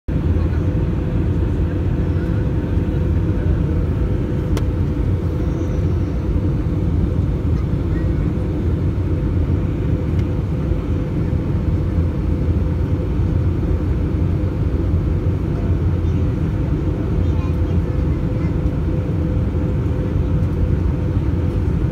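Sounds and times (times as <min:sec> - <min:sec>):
jet engine and airflow rumble: 0:00.1 - 0:21.9.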